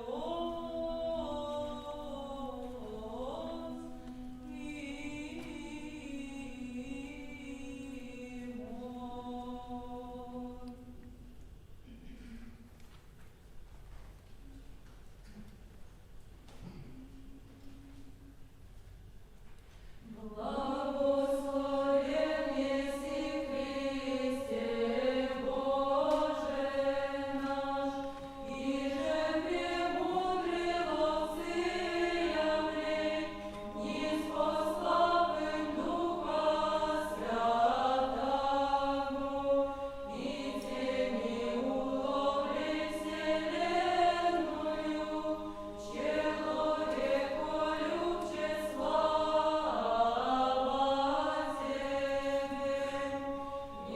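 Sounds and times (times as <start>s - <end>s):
vocal ensemble chanting: 0.0s - 11.1s, 20.0s - 53.9s.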